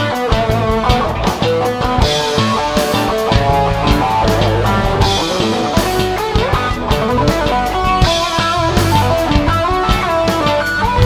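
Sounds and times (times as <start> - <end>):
drums steady beat: 0.0 - 11.0
rock music with guitar: 0.0 - 11.0.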